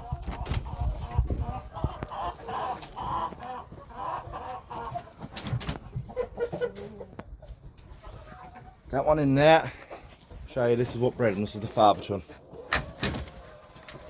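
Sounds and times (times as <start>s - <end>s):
hens clucking: 0.0s - 14.0s.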